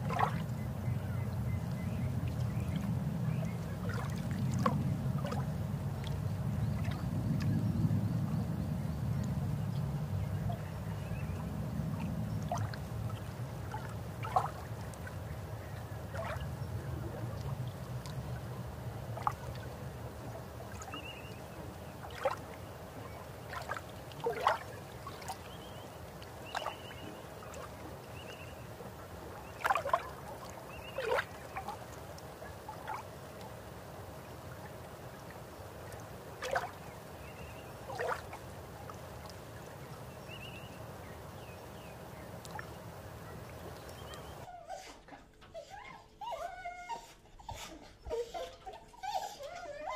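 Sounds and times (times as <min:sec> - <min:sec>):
muffled underwater rumble: 0:00.0 - 0:44.5.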